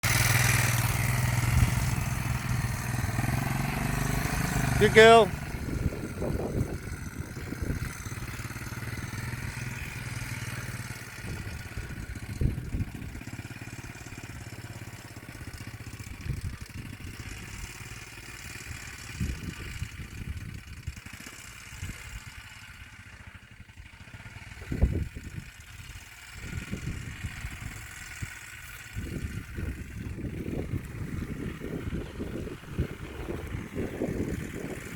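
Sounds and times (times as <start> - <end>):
quad bike engine running: 0.0 - 34.9.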